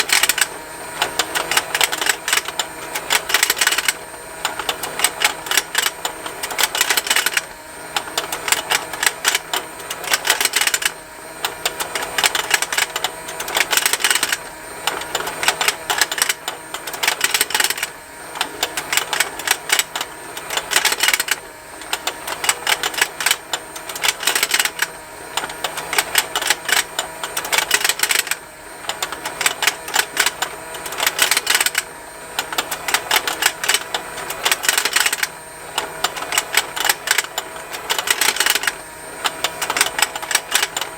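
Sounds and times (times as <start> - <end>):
toy motor ticking: 0.0 - 40.9.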